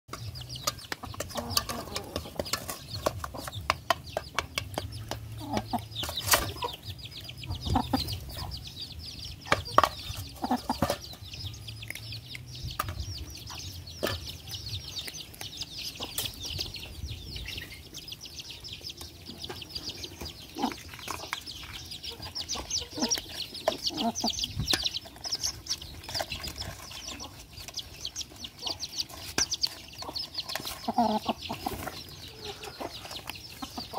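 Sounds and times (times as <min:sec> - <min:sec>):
teeth clicking on metal basin: 0:00.1 - 0:08.8, 0:09.4 - 0:16.6, 0:18.9 - 0:31.7
puppies chewing: 0:00.1 - 0:17.0, 0:17.7 - 0:33.9
hen clucking: 0:00.1 - 0:33.9.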